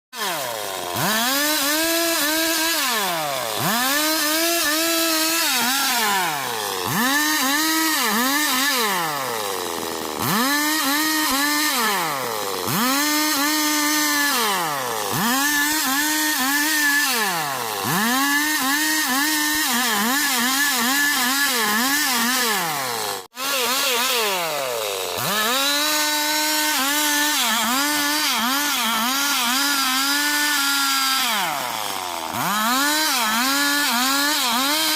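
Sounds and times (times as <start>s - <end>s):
chainsaw revving while cutting wood: 0.2s - 34.9s.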